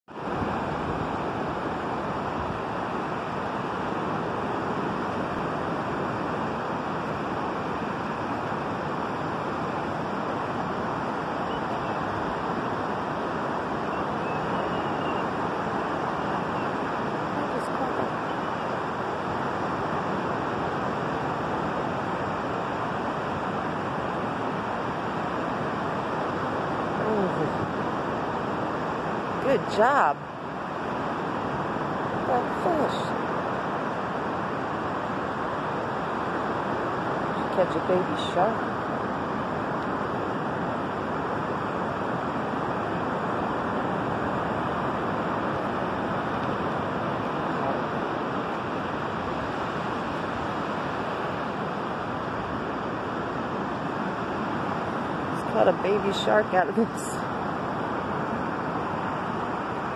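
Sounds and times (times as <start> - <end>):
wind: 0.0 - 59.9
ocean surf: 0.1 - 59.9.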